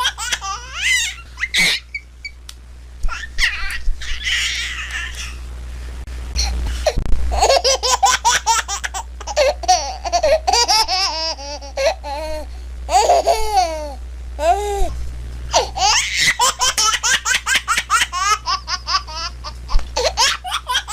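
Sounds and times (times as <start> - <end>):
baby laughing and giggling: 0.0 - 2.0, 3.1 - 5.4, 7.3 - 14.9, 15.5 - 20.9
steady low hum: 0.0 - 20.9.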